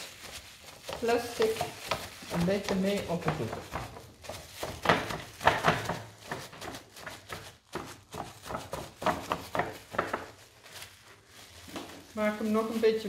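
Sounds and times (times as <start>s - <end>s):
plastic cling film crinkling: 0.0s - 13.0s.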